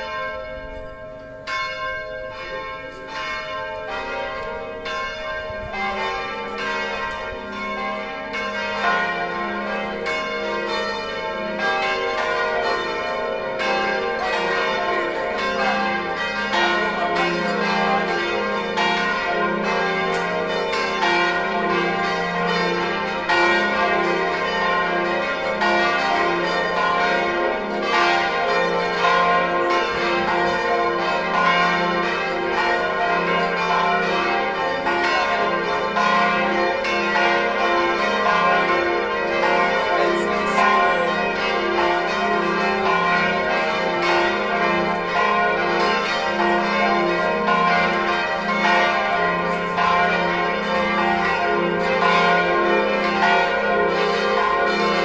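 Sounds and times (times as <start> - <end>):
church bells ringing in a peal: 0.0 - 55.0.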